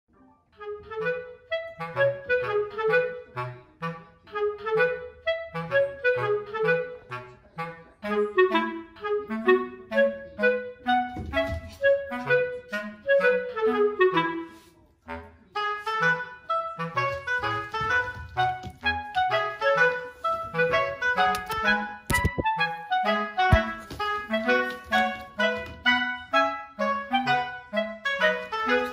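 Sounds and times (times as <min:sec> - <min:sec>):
lively clarinet melody: 0:00.4 - 0:28.9.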